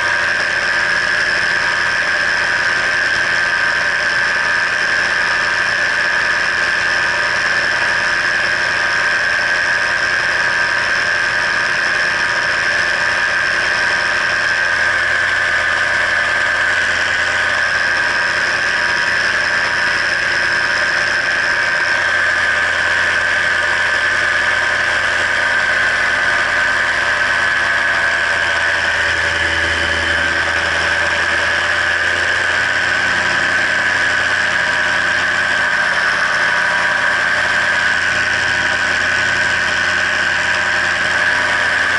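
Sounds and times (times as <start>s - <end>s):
paramotor engine drone: 0.0s - 41.9s
propeller high whine: 0.0s - 41.9s.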